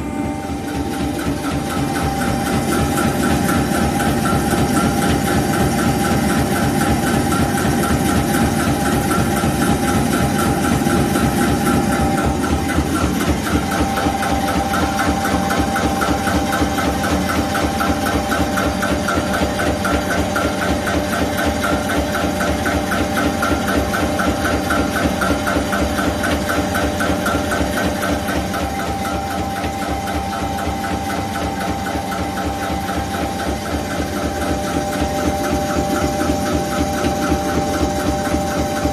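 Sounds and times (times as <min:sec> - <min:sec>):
machine hum with fast pulsing: 0:00.0 - 0:38.9.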